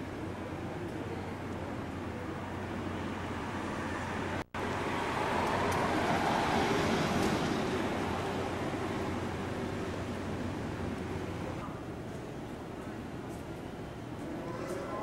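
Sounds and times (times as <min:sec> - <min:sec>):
street traffic hiss: 0:00.0 - 0:15.0.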